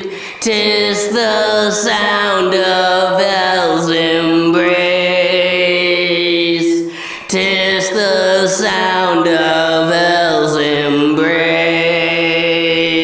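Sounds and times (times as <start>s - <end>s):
dark ambient music with vocal drone: 0.0s - 13.0s.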